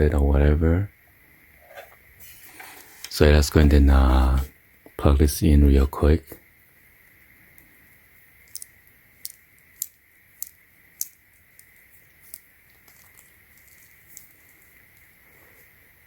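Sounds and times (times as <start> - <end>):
faint high-pitched whine: 0.0 - 16.0.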